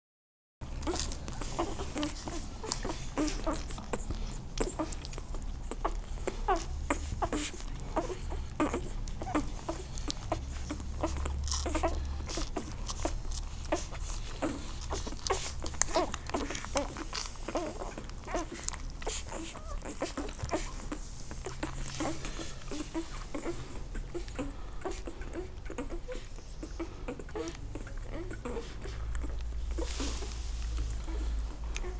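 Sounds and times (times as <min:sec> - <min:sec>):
puppies squeaking and whimpering: 0:00.7 - 0:31.9.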